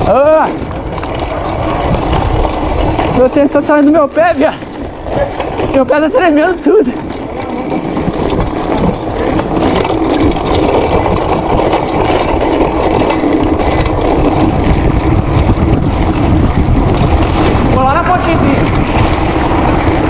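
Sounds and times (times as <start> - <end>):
bike rattling: 0.0 - 20.0
tyres drumming on cobblestones: 0.0 - 20.0.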